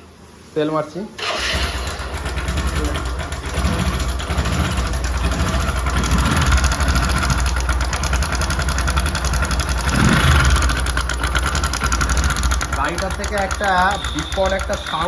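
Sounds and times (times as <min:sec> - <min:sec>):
fast metallic rattle: 0:01.2 - 0:15.0
motorcycle engine revving: 0:01.2 - 0:15.0.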